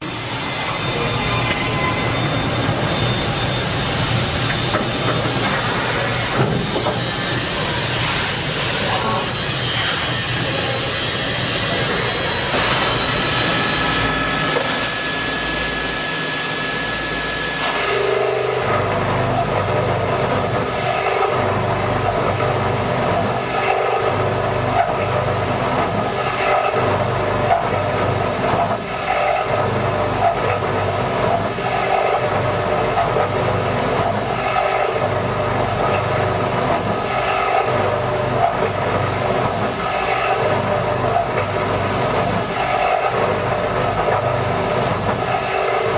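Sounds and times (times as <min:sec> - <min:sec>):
drilling machine running: 0:00.0 - 0:45.9
high machine whine: 0:00.0 - 0:45.9.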